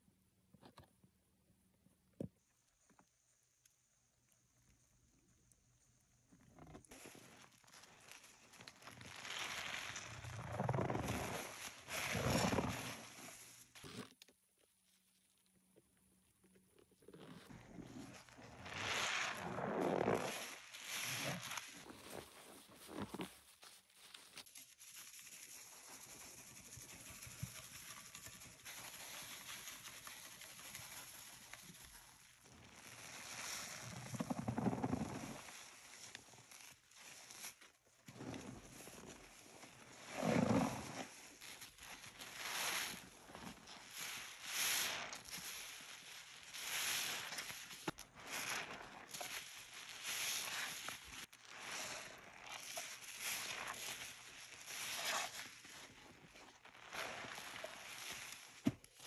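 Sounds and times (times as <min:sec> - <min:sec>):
sponge squishing and crackling: 0:06.2 - 0:14.2, 0:16.6 - 0:59.0.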